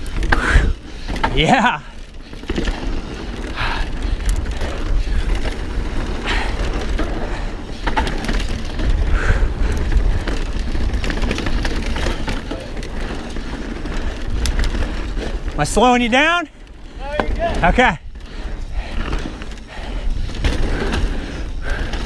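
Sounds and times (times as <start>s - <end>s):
bike chain clicks and knocks: 0.0s - 22.0s
bike tyres rattling over rough ground: 0.0s - 22.0s
wind rumbling on microphone: 0.0s - 22.0s.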